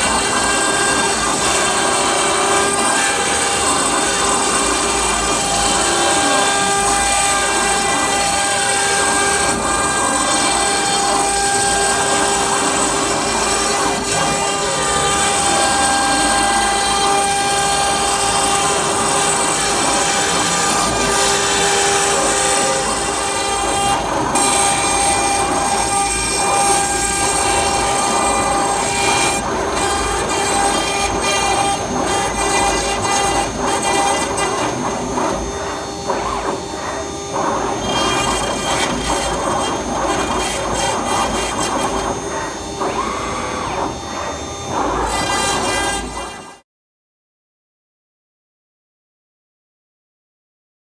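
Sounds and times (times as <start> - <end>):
router bit rasping wood: 0.0 - 46.6
router spindle high whine: 0.0 - 46.6.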